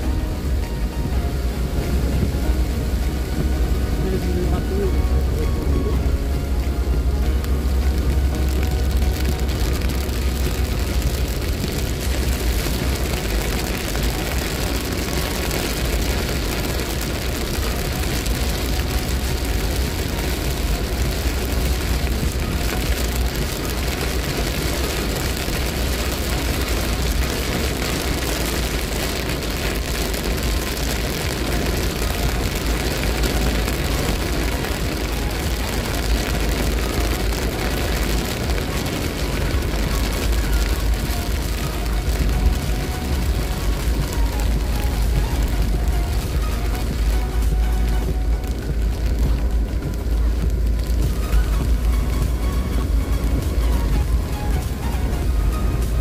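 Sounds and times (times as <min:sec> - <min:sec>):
deep road rumble: 0:00.0 - 0:56.0
rain on car: 0:00.0 - 0:56.0
tyres hissing on wet road: 0:00.0 - 0:56.0.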